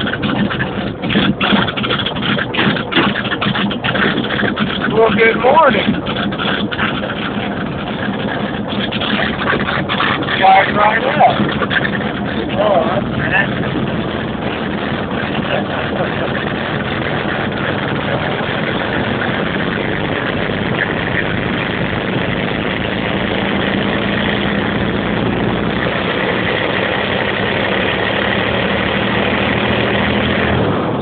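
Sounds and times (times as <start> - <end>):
large engine idling: 0.0 - 31.0.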